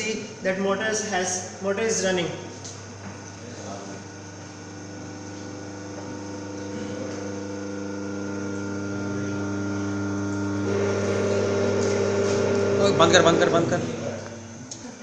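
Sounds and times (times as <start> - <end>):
electric motor humming: 2.5 - 15.0.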